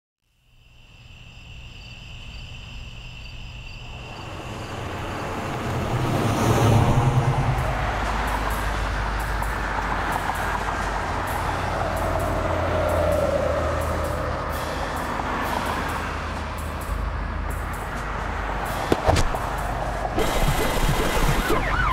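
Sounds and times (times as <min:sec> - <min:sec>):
engine and road rumble: 0:01.4 - 0:21.9
car passing by: 0:03.8 - 0:21.9.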